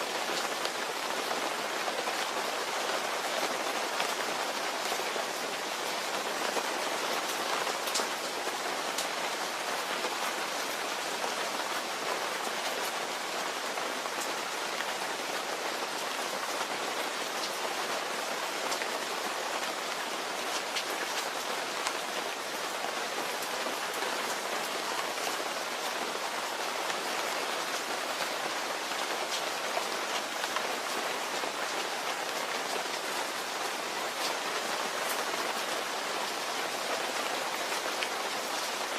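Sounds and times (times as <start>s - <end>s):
rain pattering on a surface: 0.0s - 38.9s.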